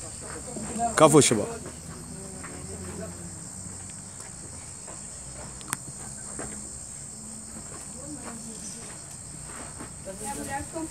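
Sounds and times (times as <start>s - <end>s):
insects buzzing: 0.0s - 10.9s.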